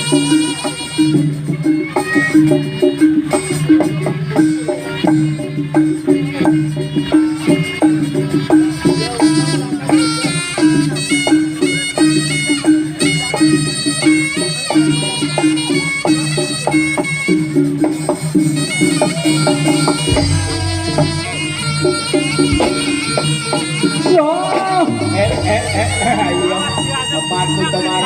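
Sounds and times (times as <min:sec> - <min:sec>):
drum strokes: 0:00.0 - 0:28.0
reedy shawm melody: 0:00.0 - 0:28.0.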